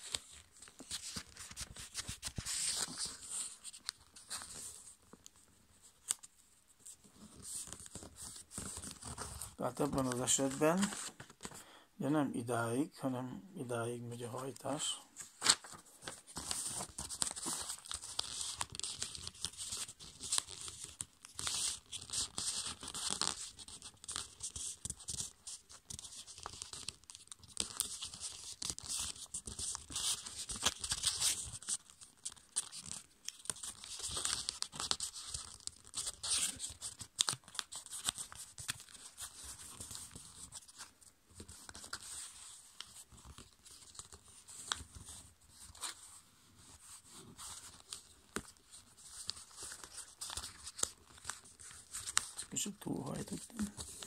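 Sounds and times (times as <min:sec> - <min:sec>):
paper rustling and crinkling: 0:00.0 - 0:11.6, 0:14.3 - 0:54.0.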